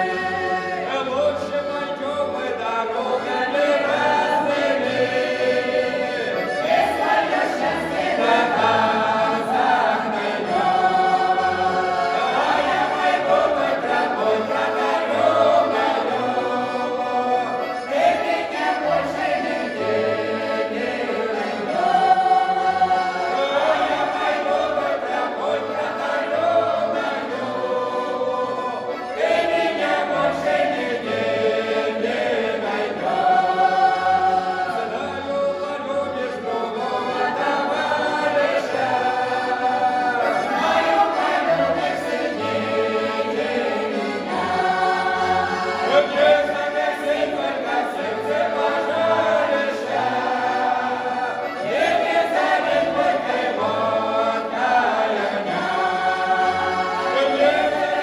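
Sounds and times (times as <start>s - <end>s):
folk choir singing: 0.0s - 58.0s.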